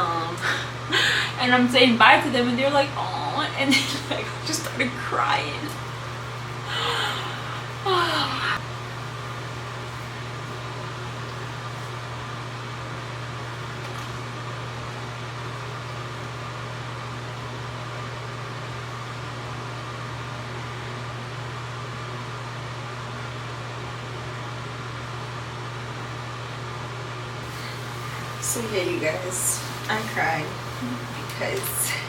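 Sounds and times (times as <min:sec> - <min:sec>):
fan humming: 0:00.0 - 0:32.0.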